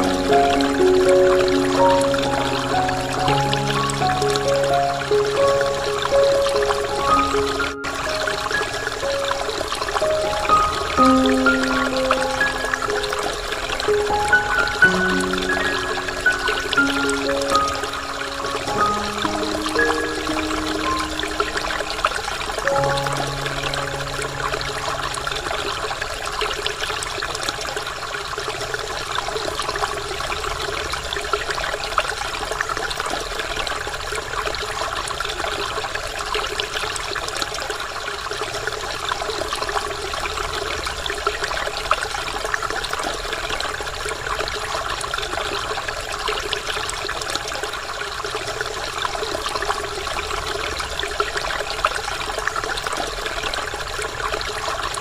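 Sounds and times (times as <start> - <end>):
waterfall rushing and splashing: 0.0 - 55.0.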